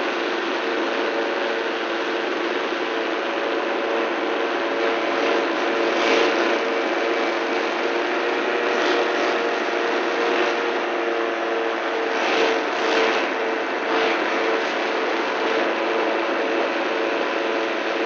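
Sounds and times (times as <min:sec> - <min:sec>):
small aircraft engine running: 0:00.0 - 0:18.0.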